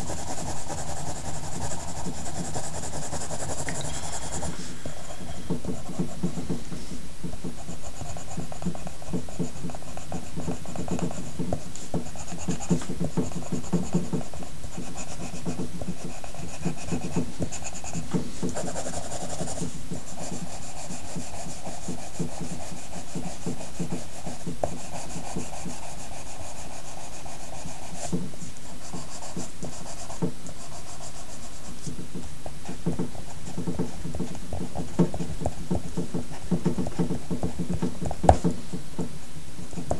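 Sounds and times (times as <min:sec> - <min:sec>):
pencil scratching on paper: 0:00.0 - 0:38.6.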